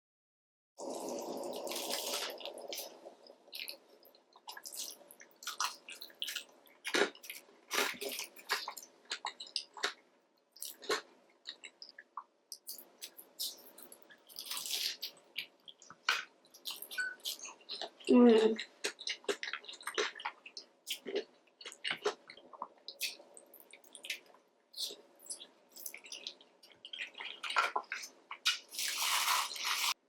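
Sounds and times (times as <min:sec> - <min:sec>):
wet chewing sounds: 0:01.5 - 0:10.0, 0:10.6 - 0:30.0.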